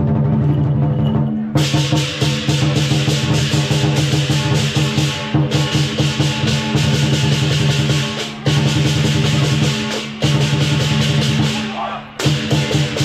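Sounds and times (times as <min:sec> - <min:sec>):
drum beating: 0:00.0 - 0:13.0
cymbals clashing: 0:00.1 - 0:13.0.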